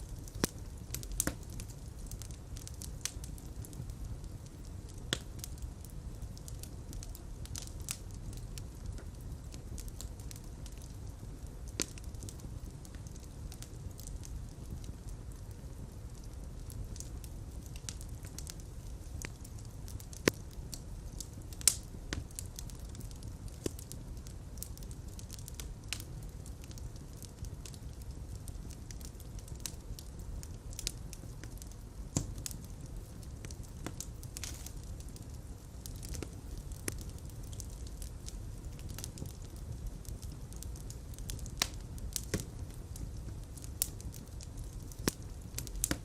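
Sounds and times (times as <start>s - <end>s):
fire crackles and pops: 0.0s - 46.0s
low rumble of flames: 0.0s - 46.0s.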